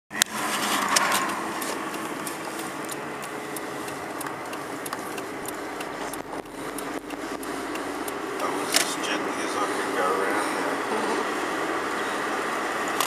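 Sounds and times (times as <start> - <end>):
wind and road noise of car: 0.1 - 13.0.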